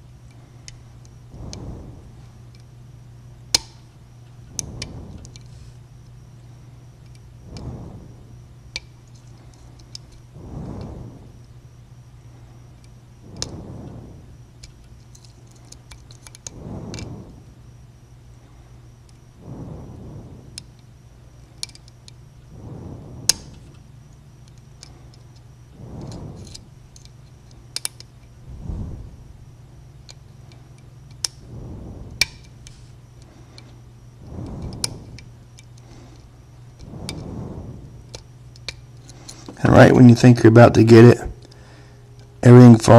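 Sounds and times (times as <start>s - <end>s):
steady low hum: 0.0s - 42.9s
soft rushes of noise: 1.1s - 2.5s, 3.9s - 15.6s, 16.3s - 42.9s.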